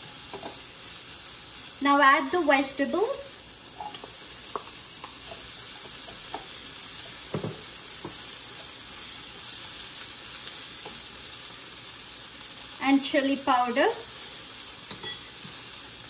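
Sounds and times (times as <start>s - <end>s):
vegetables sizzling in a pan: 0.0s - 16.0s.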